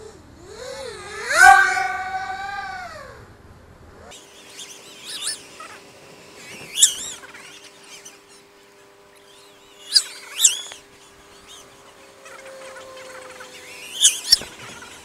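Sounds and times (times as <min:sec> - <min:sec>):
faint steady hum: 0:00.0 - 0:15.0
birds chirping: 0:01.1 - 0:02.8, 0:04.2 - 0:15.0.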